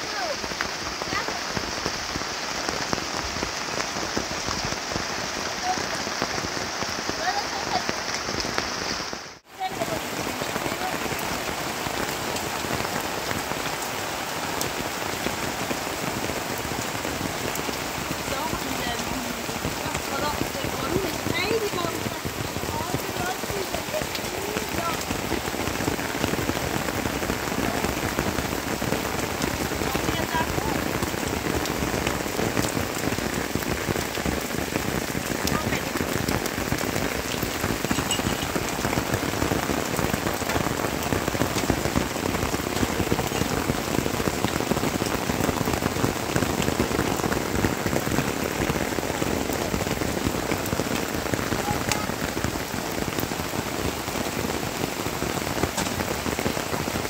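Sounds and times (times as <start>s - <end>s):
rain on plastic sheet: 0.0s - 57.0s
rain on rocky ground: 0.0s - 57.0s.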